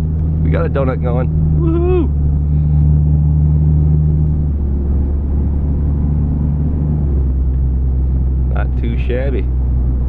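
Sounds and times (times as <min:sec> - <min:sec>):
engine droning under throttle: 0:00.0 - 0:10.0.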